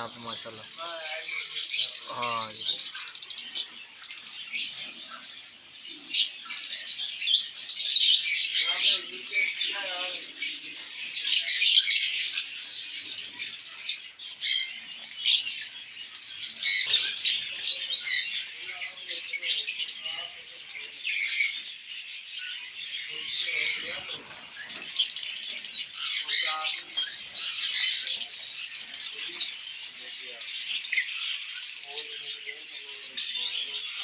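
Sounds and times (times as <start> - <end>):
flock of birds chattering: 0.0 - 34.0.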